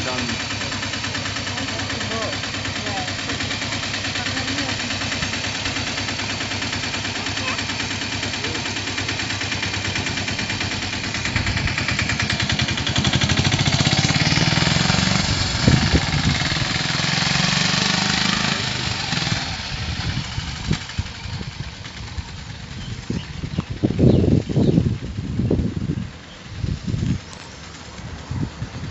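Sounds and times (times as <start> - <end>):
small engine idling: 0.0 - 28.9.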